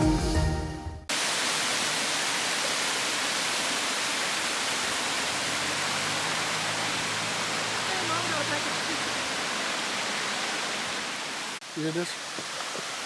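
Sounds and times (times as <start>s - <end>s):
waterfall rushing: 1.1s - 13.0s.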